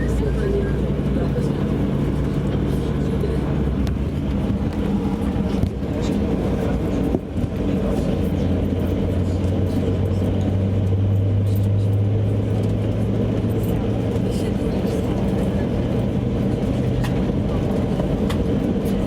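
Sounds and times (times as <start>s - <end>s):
airliner engines humming: 0.0s - 19.0s.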